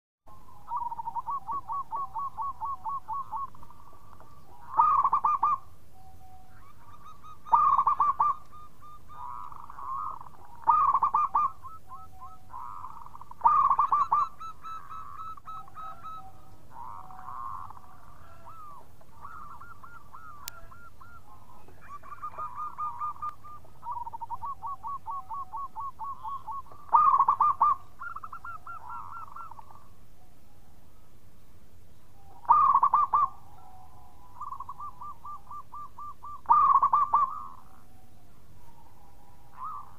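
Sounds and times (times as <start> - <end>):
dove cooing: 0.3 - 30.7, 32.2 - 39.9.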